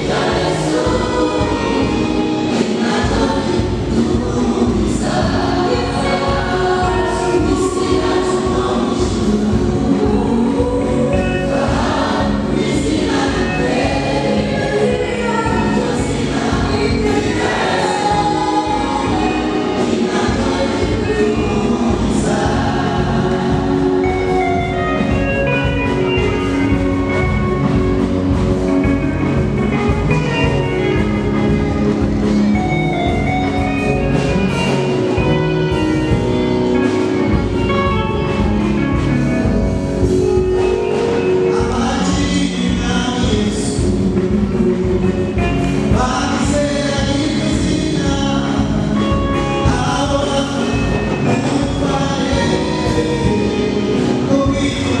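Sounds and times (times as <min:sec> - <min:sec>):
amplified backing music: 0:00.0 - 0:55.0
mixed choir singing gospel: 0:00.0 - 0:55.0.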